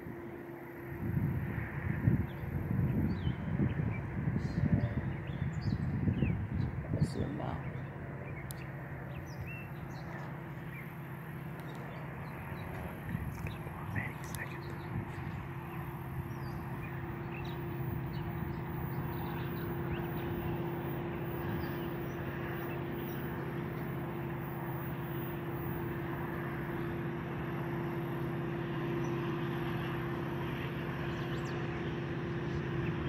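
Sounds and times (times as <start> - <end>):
distant locomotive engine drone: 0.0 - 33.0.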